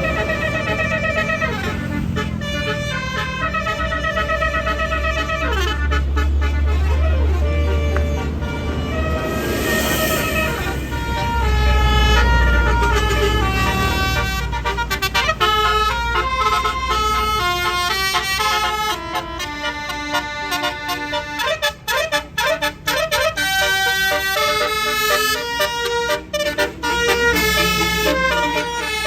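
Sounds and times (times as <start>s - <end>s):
bus horn playing a melody: 0.0s - 29.0s.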